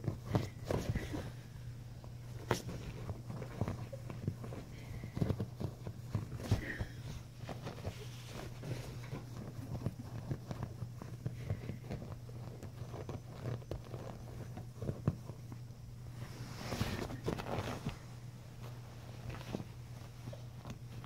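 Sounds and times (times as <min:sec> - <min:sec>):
fabric rustle: 0:00.0 - 0:21.0
puppy scratching at bedding: 0:00.0 - 0:21.0.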